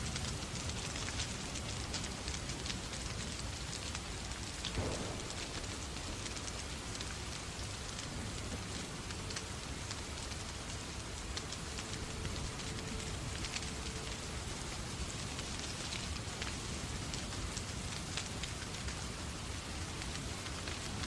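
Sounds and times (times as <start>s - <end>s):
raindrops ticking: 0.0s - 21.0s
steady rain falling: 0.0s - 21.0s.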